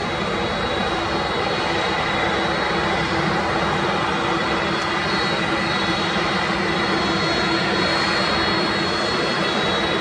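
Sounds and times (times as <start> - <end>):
jet engines at low power: 0.0 - 10.0.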